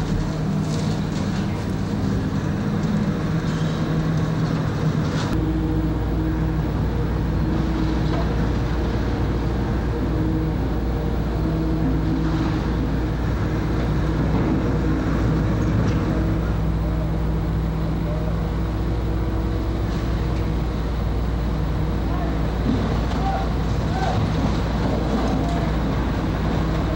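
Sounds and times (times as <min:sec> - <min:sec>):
deep low rumble: 0:00.0 - 0:26.9
excavator diesel engine running: 0:00.0 - 0:26.9.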